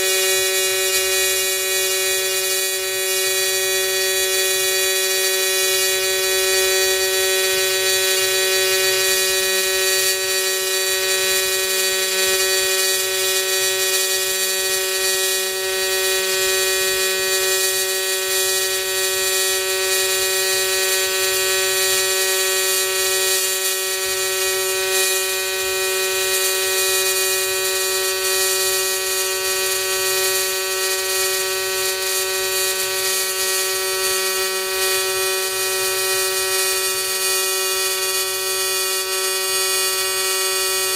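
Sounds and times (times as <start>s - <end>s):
welding arc buzzing: 0.0s - 40.9s.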